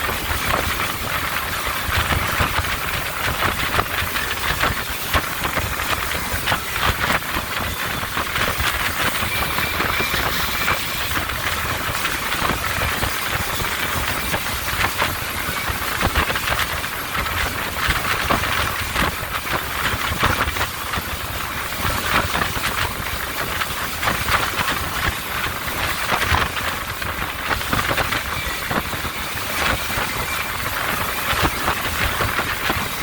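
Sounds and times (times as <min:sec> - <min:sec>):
low engine rumble: 0:00.0 - 0:33.0
rush of water and wind: 0:00.0 - 0:33.0.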